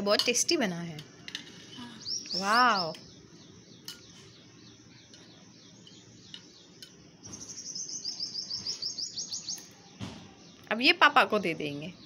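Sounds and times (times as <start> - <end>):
bird chirping: 0.8 - 12.0.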